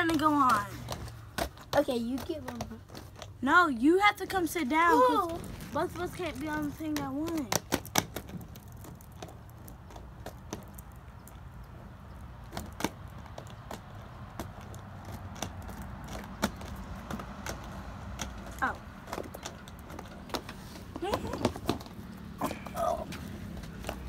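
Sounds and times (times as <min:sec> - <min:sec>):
roller skate wheels rolling on concrete: 0:00.0 - 0:24.0.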